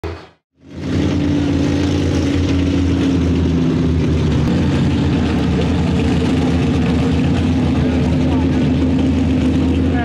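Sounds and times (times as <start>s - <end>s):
truck engine idling: 1.9s - 10.0s.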